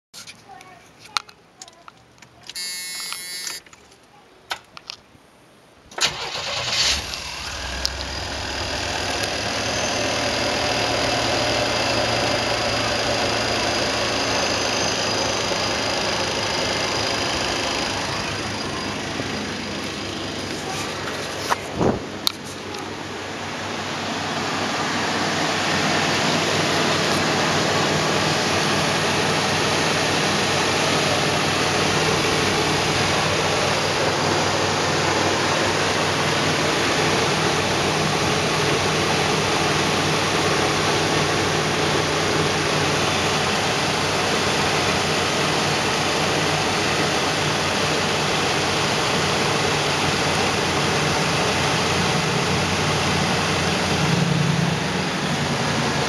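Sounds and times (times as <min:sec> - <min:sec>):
van engine running: 0:06.0 - 0:56.0.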